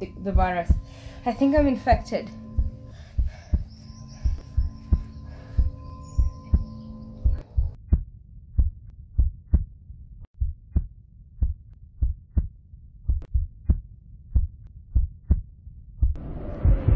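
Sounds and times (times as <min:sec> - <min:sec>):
heartbeat thumps: 0:00.0 - 0:09.7, 0:10.3 - 0:16.9.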